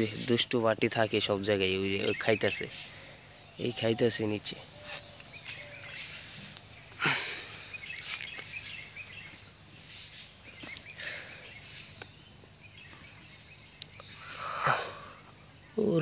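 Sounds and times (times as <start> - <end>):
insects droning: 0.0 - 16.0
short insect chirps: 0.0 - 16.0.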